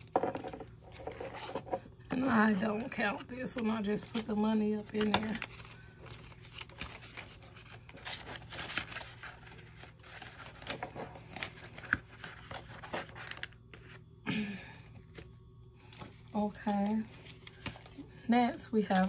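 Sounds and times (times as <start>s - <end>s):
paper rustling and crinkling: 0.0s - 14.1s, 15.0s - 19.0s.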